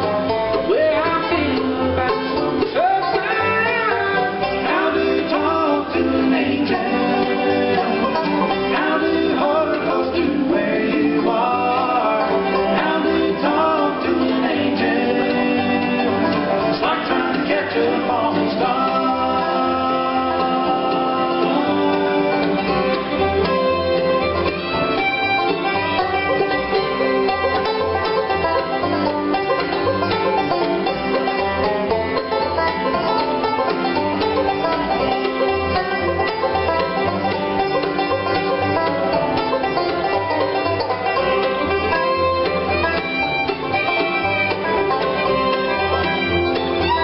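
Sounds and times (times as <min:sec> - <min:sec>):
bluegrass band playing: 0:00.0 - 0:47.0.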